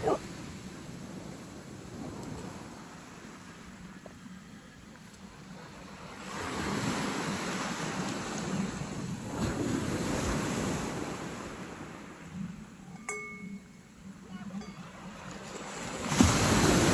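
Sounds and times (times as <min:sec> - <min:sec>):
surf washing in: 0:00.0 - 0:16.9
wind buffeting microphone: 0:00.0 - 0:16.9.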